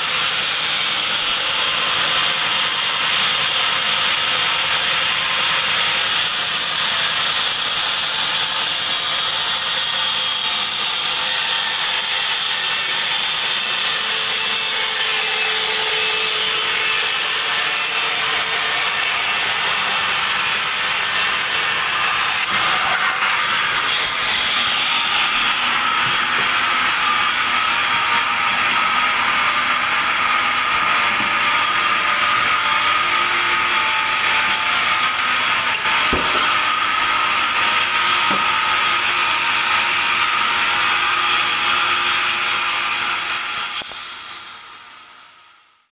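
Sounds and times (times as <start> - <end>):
band saw cutting log: 0.0 - 45.7.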